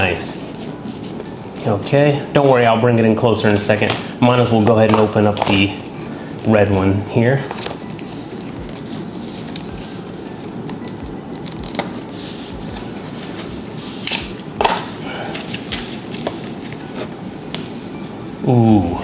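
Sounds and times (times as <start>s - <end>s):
cardboard rustling: 0.0s - 18.2s
low background noise: 0.0s - 19.0s.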